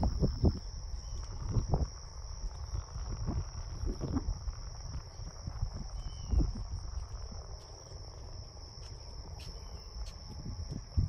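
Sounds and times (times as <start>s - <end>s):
low microphone rumble: 0.0s - 9.4s
crickets chirping: 0.0s - 11.0s.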